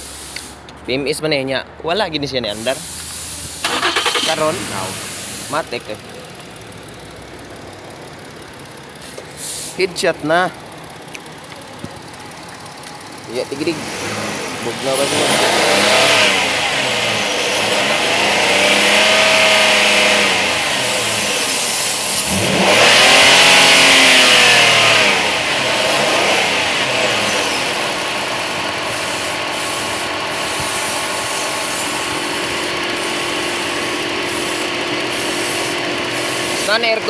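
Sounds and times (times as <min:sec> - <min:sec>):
car engine revving and idling: 0:02.2 - 0:37.0.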